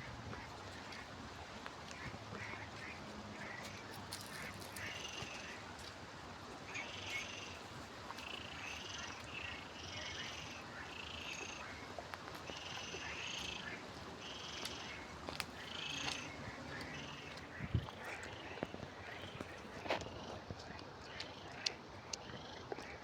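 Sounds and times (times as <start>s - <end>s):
faint outdoor background: 0.0s - 23.0s.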